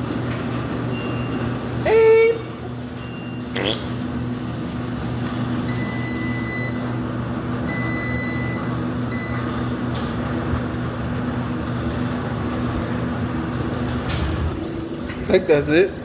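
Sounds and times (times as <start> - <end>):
laundry machines humming: 0.0 - 16.0.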